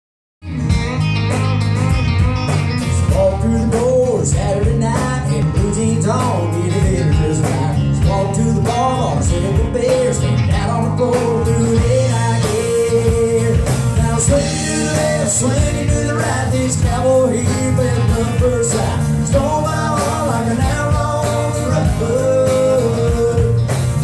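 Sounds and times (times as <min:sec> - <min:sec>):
bending electric guitar melody: 0:00.4 - 0:24.0
country rock band playing: 0:00.4 - 0:24.0.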